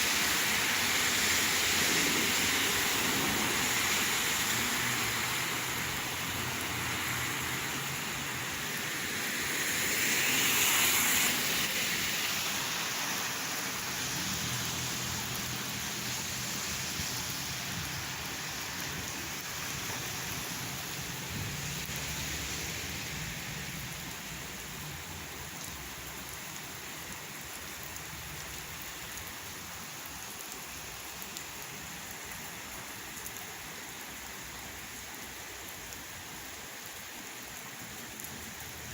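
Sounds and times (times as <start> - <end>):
rain falling and splashing: 0.0 - 38.9.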